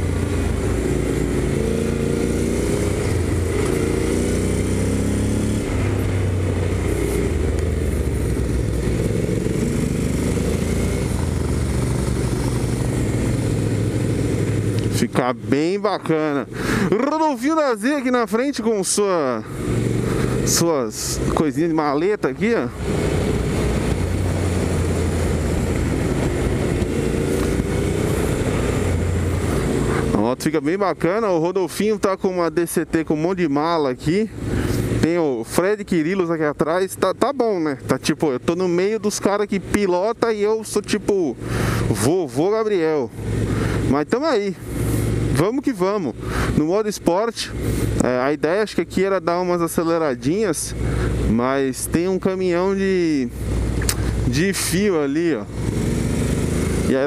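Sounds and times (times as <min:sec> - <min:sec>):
motorcycle engine revving: 0:00.0 - 0:32.6, 0:33.2 - 0:57.0
road noise: 0:00.0 - 0:57.0.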